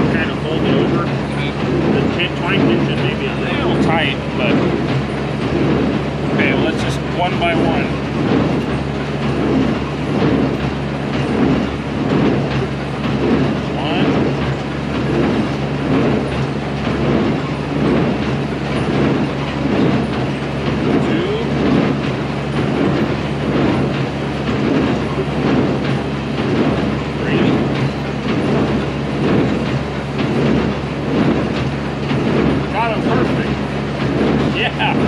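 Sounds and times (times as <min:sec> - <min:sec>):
low engine hum: 0:00.0 - 0:35.0
rhythmic machine clatter: 0:00.0 - 0:35.0.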